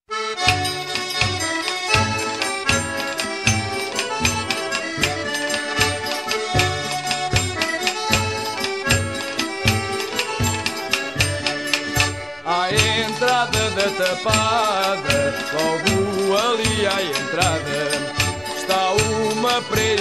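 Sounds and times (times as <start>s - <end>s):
instrumental folk music: 0.1s - 20.0s.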